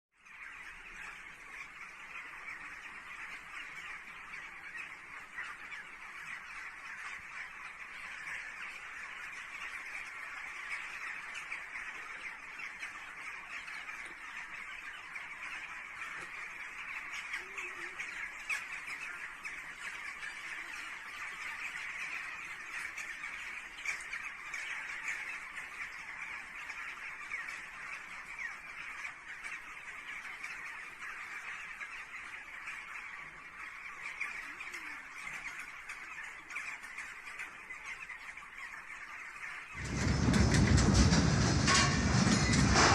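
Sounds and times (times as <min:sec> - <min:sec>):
flock of birds chattering: 0:00.2 - 0:42.9.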